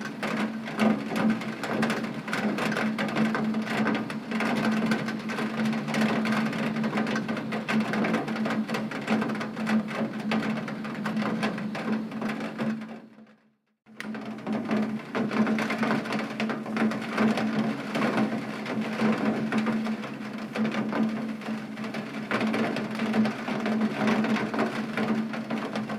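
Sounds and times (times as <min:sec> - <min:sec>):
rain on window glass: 0:00.0 - 0:13.2, 0:14.0 - 0:25.9.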